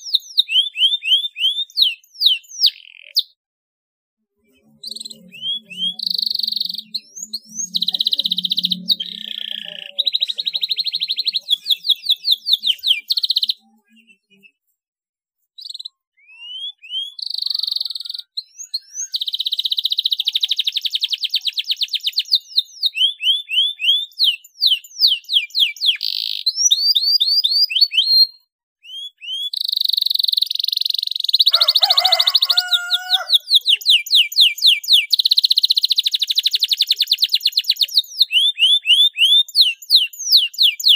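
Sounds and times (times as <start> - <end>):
canary singing trills: 0.0 - 3.4, 4.4 - 14.7, 15.6 - 40.9.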